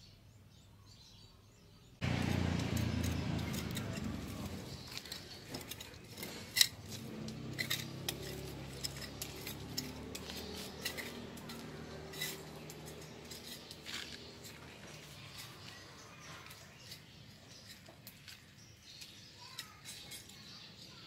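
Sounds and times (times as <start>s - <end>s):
trowel scraping and clicking: 2.0s - 20.6s.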